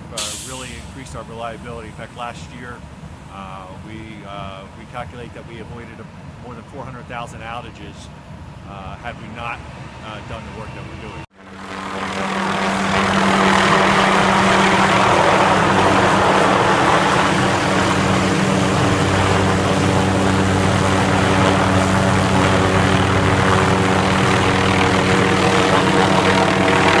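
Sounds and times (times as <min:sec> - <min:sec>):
helicopter flying overhead: 0:00.0 - 0:27.0.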